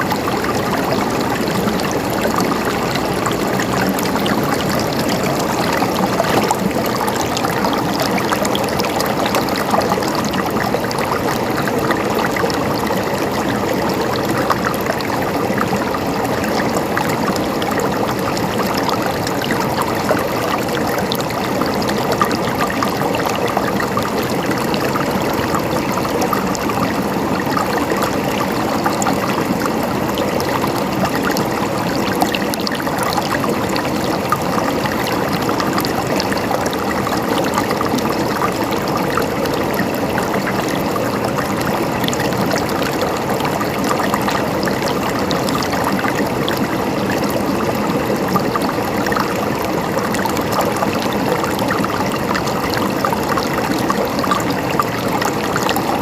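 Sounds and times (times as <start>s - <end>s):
stream gurgling and trickling: 0.0s - 56.0s.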